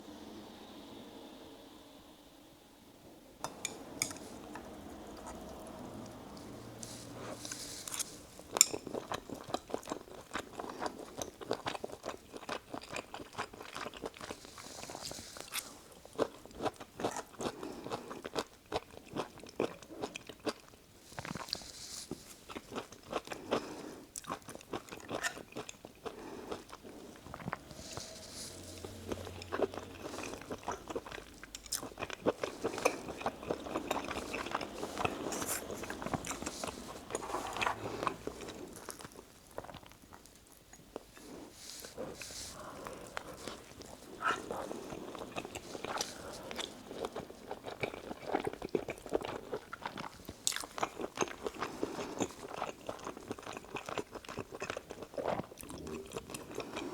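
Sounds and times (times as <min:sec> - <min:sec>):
person chewing food: 0:03.4 - 0:56.9.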